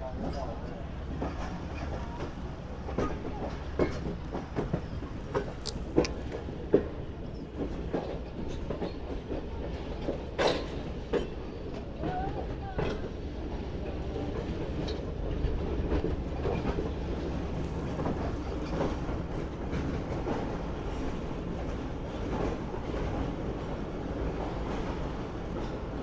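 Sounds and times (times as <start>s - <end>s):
train rumbling along track: 0.0s - 26.0s.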